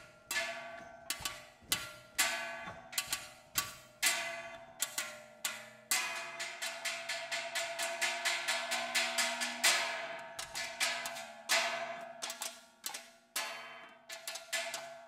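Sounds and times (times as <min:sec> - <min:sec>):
struck ringing metal percussion: 0:00.0 - 0:15.0.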